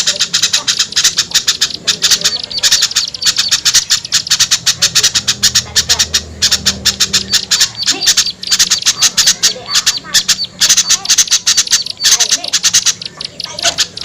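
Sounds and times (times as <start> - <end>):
small birds harsh chattering: 0.0 - 14.0.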